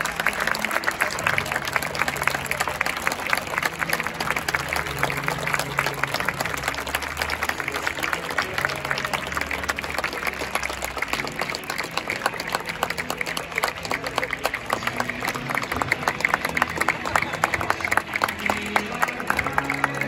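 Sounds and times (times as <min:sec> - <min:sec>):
crowd applauding: 0:00.0 - 0:20.0.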